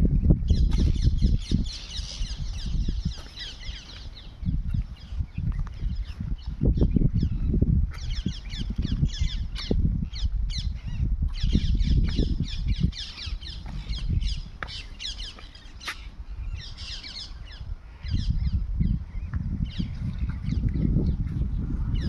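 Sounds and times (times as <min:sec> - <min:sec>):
low rumble on microphone: 0:00.0 - 0:22.0
small birds chirping: 0:00.2 - 0:22.0.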